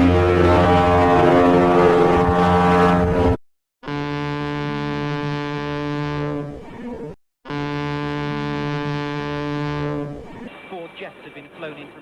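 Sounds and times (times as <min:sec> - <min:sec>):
ship's horn low note: 0:00.0 - 0:06.8, 0:07.5 - 0:10.3.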